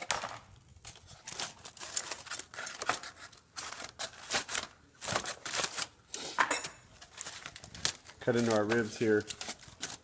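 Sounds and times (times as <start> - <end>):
knife scraping on foil: 0.9 - 10.0.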